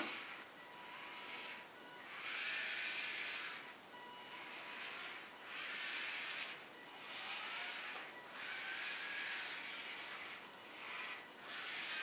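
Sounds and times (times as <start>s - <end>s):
toy car motors whirring: 0.0s - 12.0s.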